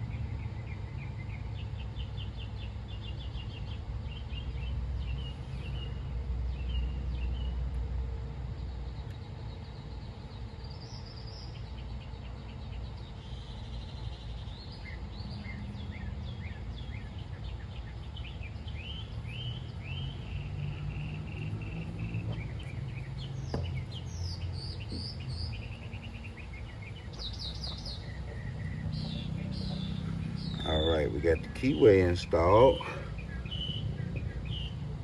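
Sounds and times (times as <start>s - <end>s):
birds chirping: 0.0s - 35.0s
low background rumble: 0.0s - 35.0s.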